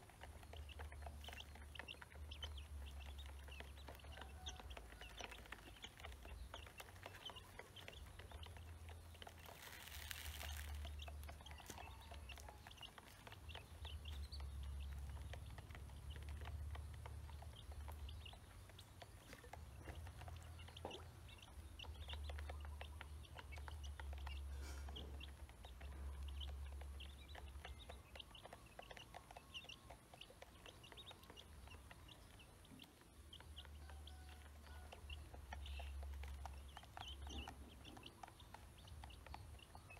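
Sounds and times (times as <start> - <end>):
ducklings cheeping: 0.0 - 39.9.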